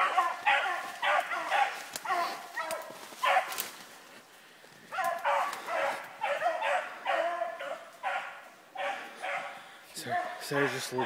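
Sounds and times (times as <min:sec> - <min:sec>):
hounds baying: 0:00.0 - 0:03.8, 0:04.9 - 0:11.0.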